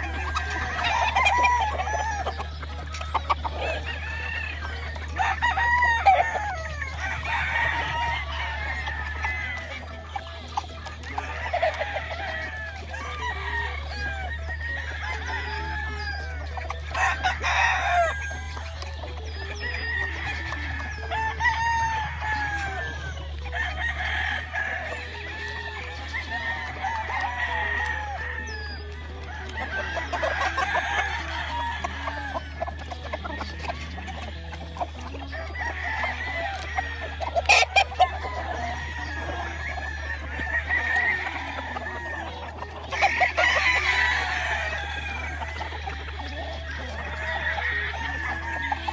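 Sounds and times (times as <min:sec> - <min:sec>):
chicken clucking: 0:00.0 - 0:48.9
roosters crowing: 0:00.0 - 0:48.9.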